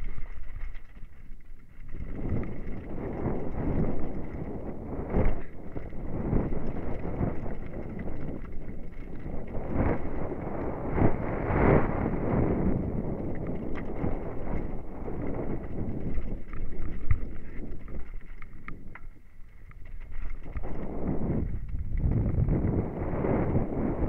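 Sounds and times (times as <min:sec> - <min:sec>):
bike knocking and rattling: 0:00.0 - 0:11.4, 0:12.0 - 0:24.0
wind buffeting microphone: 0:00.0 - 0:24.0.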